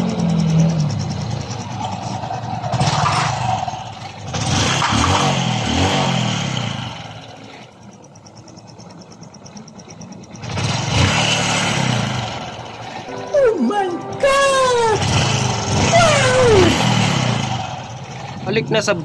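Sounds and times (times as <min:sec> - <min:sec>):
motorcycle engine revving and idling: 0:00.0 - 0:13.1, 0:16.7 - 0:19.0.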